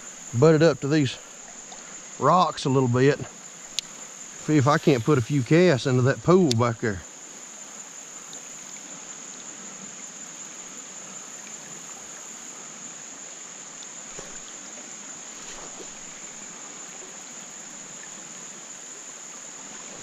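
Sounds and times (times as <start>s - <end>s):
creek water rushing: 0.0s - 20.0s
insects chirring: 0.0s - 20.0s.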